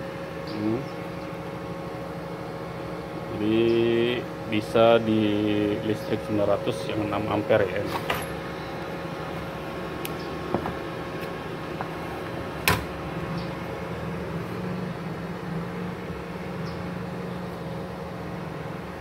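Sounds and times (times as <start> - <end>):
welding machine fan humming: 0.0 - 19.0.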